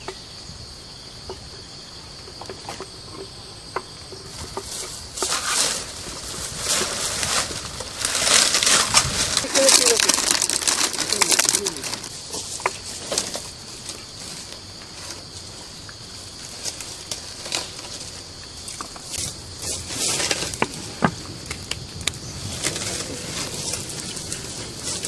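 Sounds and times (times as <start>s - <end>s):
dry fronds crackling in fire: 4.4s - 25.0s.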